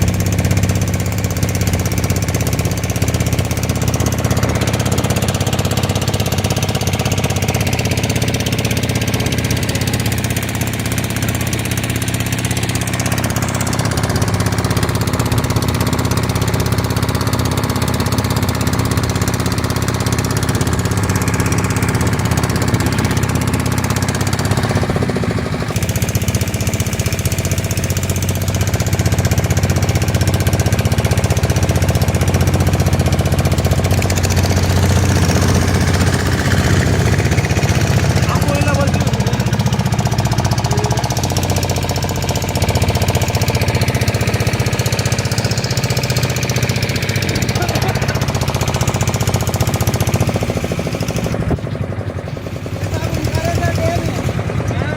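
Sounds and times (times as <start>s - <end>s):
motorboat engine running: 0.0s - 54.9s.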